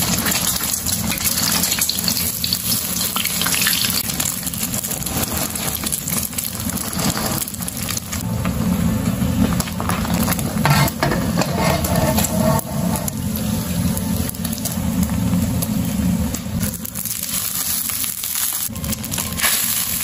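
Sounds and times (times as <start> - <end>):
egg sizzling in oil: 0.0 - 20.0.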